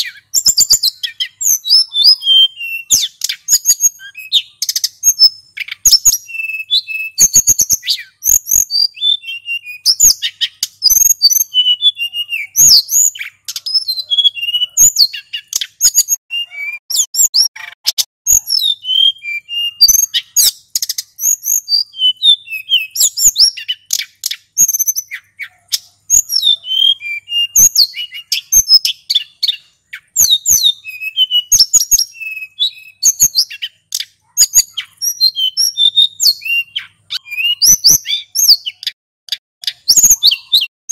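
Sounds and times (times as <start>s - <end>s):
bird singing high whistled notes: 0.0s - 39.0s, 39.6s - 40.7s.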